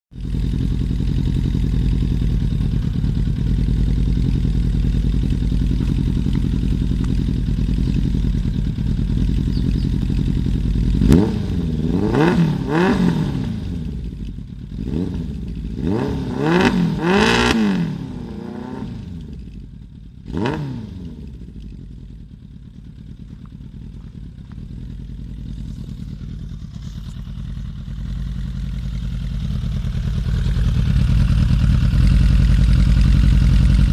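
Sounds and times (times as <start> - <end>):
motorcycle engine idling and revving: 0.1 - 33.9.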